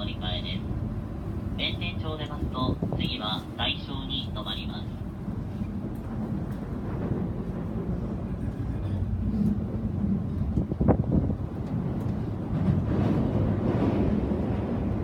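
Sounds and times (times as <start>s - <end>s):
train rumble inside passenger car: 0.0s - 15.0s.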